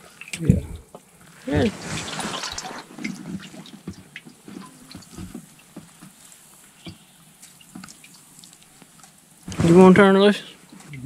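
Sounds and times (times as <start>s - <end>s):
water dripping and trickling: 0.0s - 11.0s.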